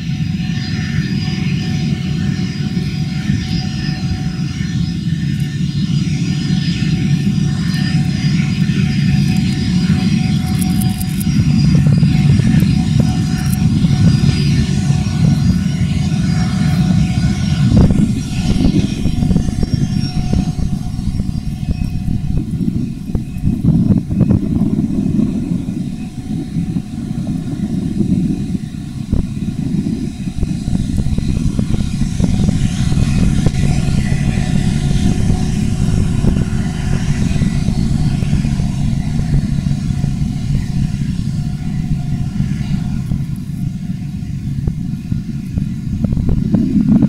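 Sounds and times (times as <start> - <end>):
jet aircraft rolling past: 0.0 - 47.0.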